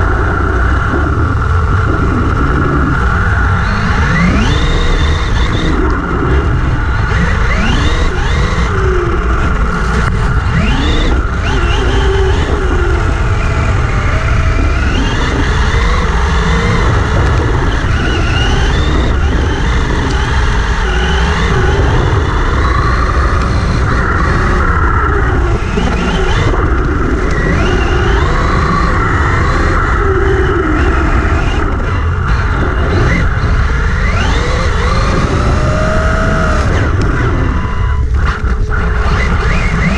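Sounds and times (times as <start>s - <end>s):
electric motor whining: 0.0s - 39.9s
tyres churning through sand: 0.0s - 39.9s.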